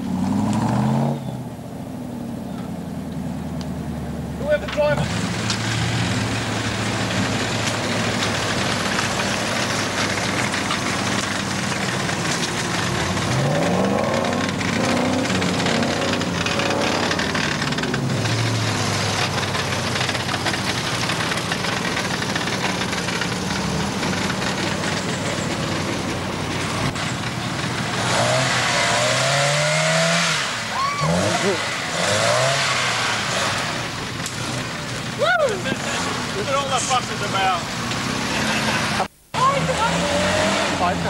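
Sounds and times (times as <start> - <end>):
engine running and revving: 0.0 - 1.5, 5.0 - 41.0.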